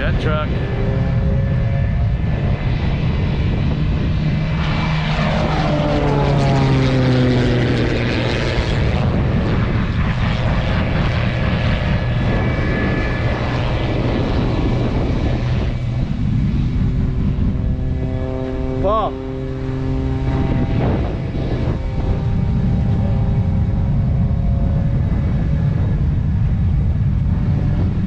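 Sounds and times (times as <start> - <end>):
propeller plane engine drone: 0.0 - 28.0.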